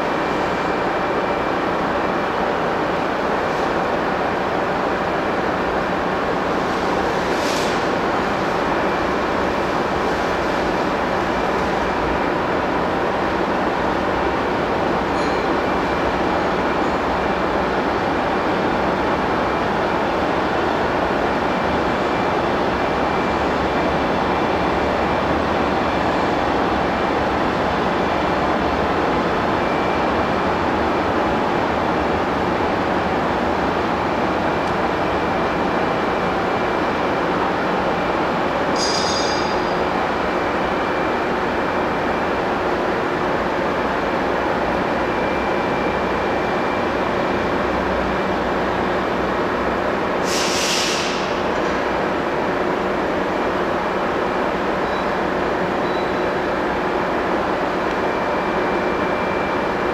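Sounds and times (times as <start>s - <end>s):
electric locomotive humming: 0.0s - 59.9s.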